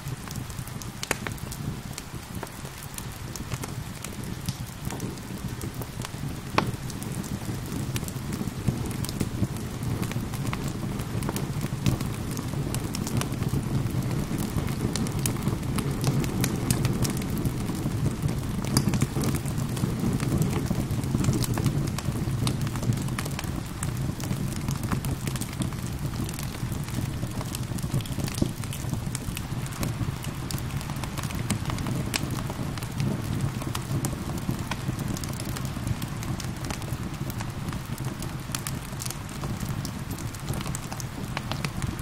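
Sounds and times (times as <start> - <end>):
steady rain: 0.0 - 42.0
wood fire crackling and popping: 0.0 - 42.0.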